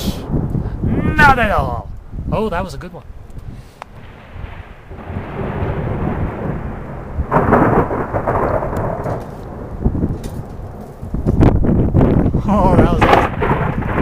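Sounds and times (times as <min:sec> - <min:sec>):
rain falling: 0:00.0 - 0:14.0
thunder rumbling: 0:00.0 - 0:14.0.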